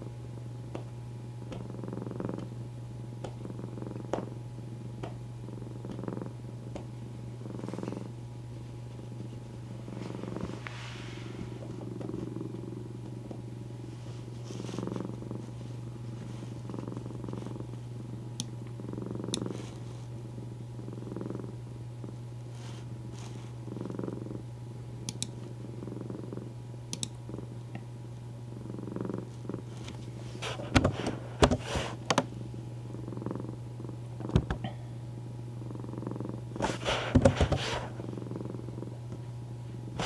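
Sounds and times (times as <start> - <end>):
steady low hum: 0.0 - 40.0
cat purring: 1.4 - 27.8, 28.4 - 35.0, 35.6 - 40.0.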